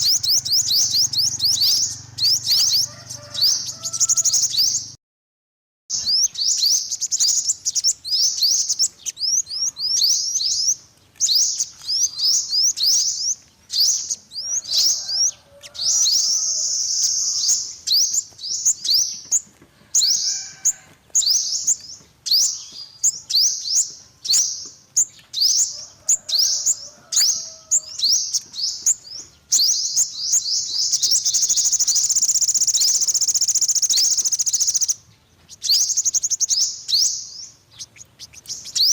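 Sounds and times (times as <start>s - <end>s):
bird chirps and trill: 0.0s - 5.0s, 5.9s - 38.9s.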